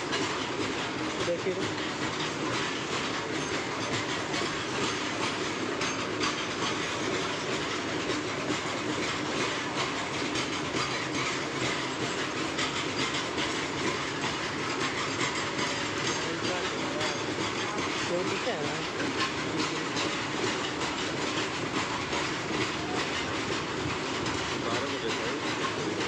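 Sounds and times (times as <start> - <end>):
train rumble: 0.0 - 26.0
train wheels clattering on rails: 0.0 - 26.0.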